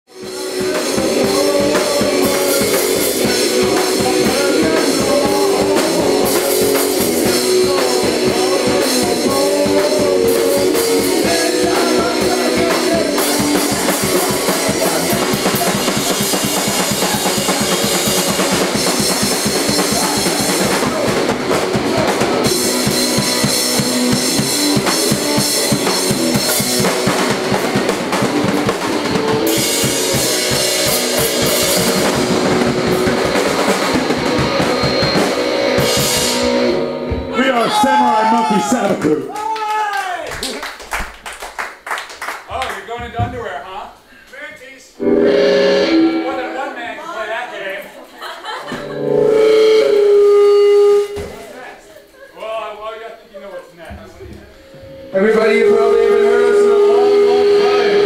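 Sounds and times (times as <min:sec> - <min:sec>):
rock band playing live: 0:00.1 - 0:39.1, 0:45.0 - 0:47.3, 0:48.1 - 0:51.5, 0:54.1 - 0:58.0
drum kit beat: 0:00.1 - 0:44.0, 0:45.0 - 0:47.4, 0:48.2 - 0:51.8, 0:53.2 - 0:58.0.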